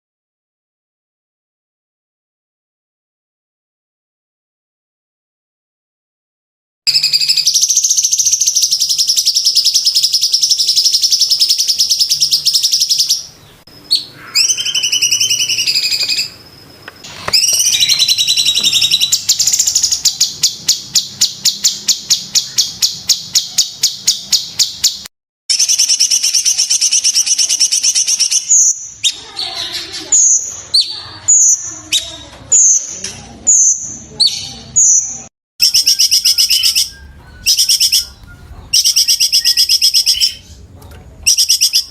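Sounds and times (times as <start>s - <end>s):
bird singing rattling trills: 6.9s - 32.9s, 33.5s - 41.9s.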